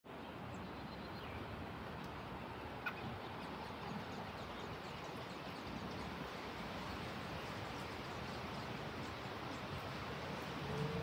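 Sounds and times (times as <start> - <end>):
steady rushing hiss: 1.5 - 11.0.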